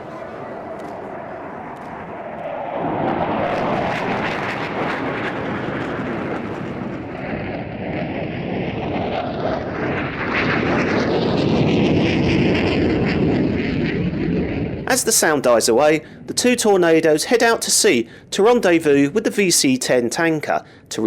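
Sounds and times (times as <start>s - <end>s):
jet roar: 0.0s - 21.0s.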